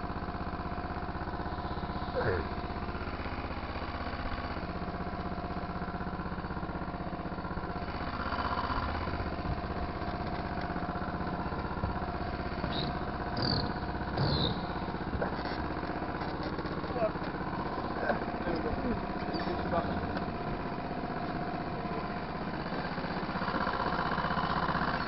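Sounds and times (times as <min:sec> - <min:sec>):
go-kart engine running: 0:00.0 - 0:25.0.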